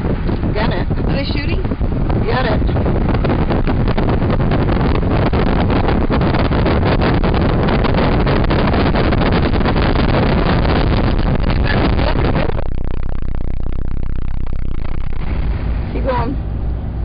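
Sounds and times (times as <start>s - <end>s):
road and wind noise in truck cab: 0.0s - 17.0s
wind buffeting on microphone: 0.0s - 17.0s.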